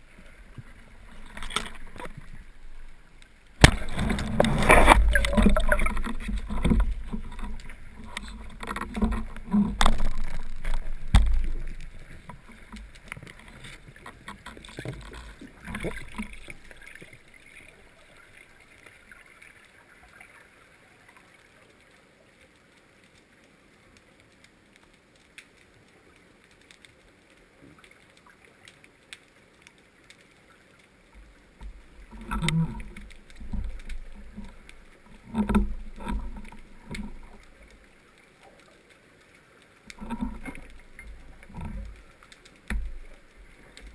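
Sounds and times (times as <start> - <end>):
underwater rushing water: 0.0 - 43.9.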